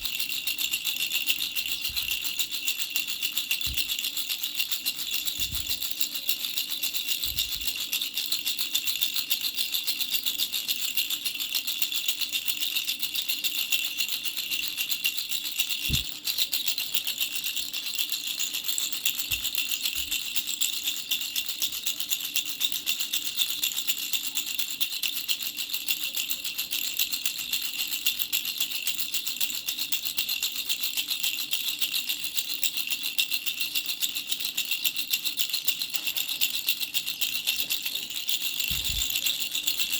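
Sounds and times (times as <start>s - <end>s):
baby rattle bells jingling: 0.0s - 39.9s.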